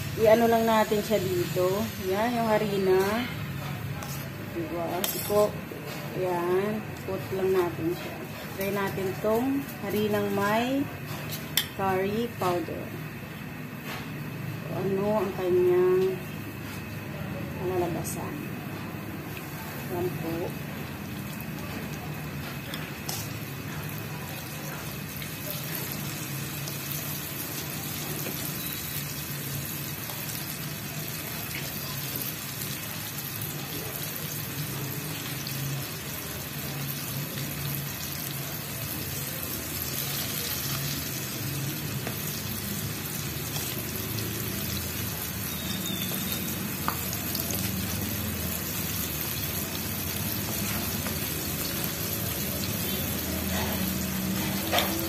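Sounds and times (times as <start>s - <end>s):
chicken deep-frying in oil: 0.0s - 5.3s, 5.9s - 13.3s, 17.6s - 55.0s.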